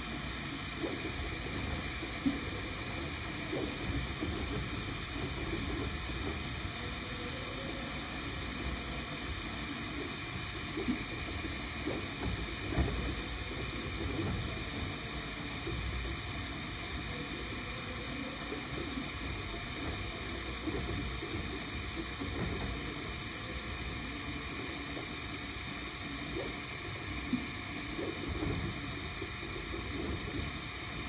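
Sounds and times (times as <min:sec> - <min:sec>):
three d printer whirring: 0:00.0 - 0:31.0.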